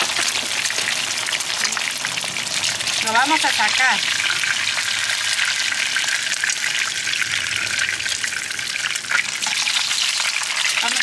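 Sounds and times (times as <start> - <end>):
eggs sizzling in oil: 0.0 - 11.0.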